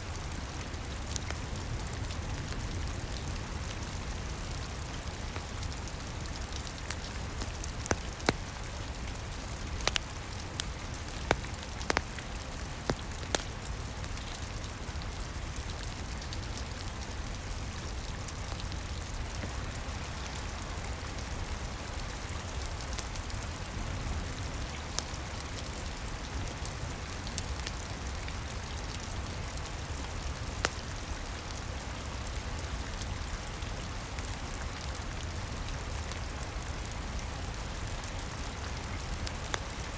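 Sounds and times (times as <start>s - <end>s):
fireplace fire crackling: 0.0s - 39.9s
steady rain heard from indoors: 0.0s - 39.9s.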